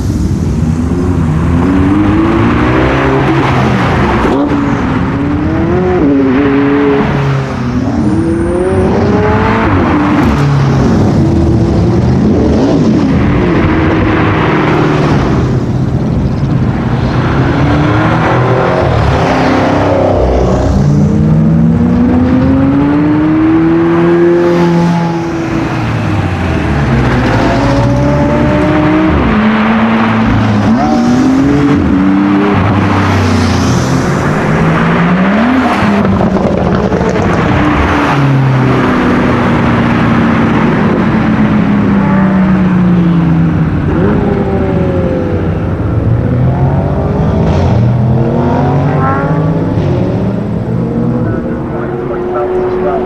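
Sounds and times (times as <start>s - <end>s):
car engines accelerating past: 0.0s - 53.0s.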